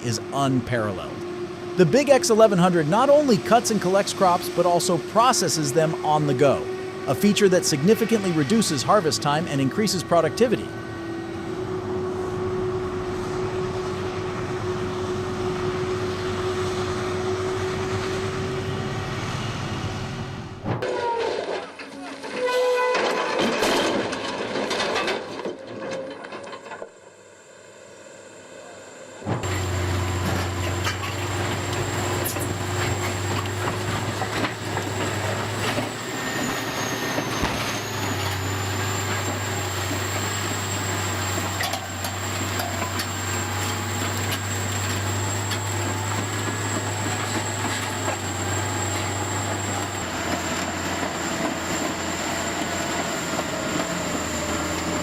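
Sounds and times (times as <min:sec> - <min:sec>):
low engine hum: 0:00.0 - 0:20.8, 0:29.2 - 0:55.0
constant high whine: 0:00.0 - 0:22.0, 0:23.0 - 0:55.0.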